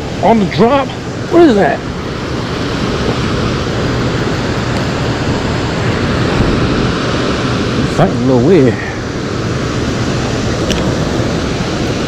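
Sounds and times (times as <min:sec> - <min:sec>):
water rushing through spillway: 0:00.0 - 0:12.0.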